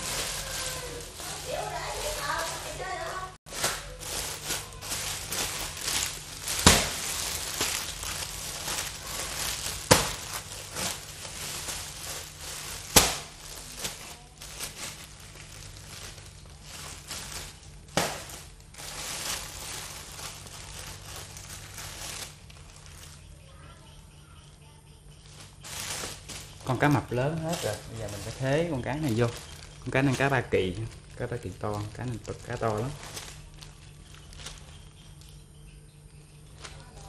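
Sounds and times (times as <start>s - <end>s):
sharp plastic crackles: 0.0s - 23.3s, 25.2s - 35.5s, 36.3s - 37.0s
plastic packs rustling and crinkling: 0.0s - 37.0s.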